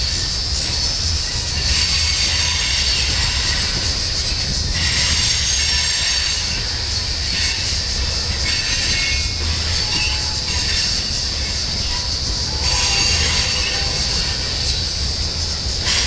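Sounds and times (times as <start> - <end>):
freight train rumbling over bridge: 0.0 - 16.0
wheels squealing on rails: 0.0 - 16.0.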